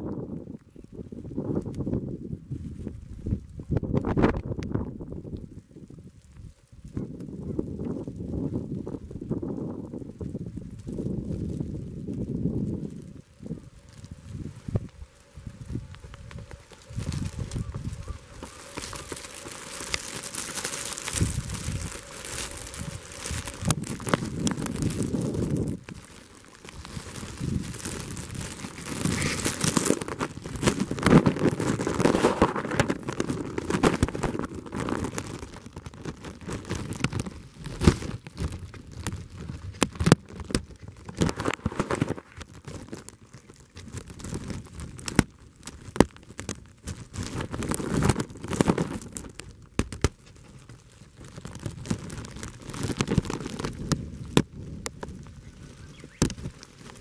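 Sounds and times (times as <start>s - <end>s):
microphone handling rustling: 10.6s - 57.0s.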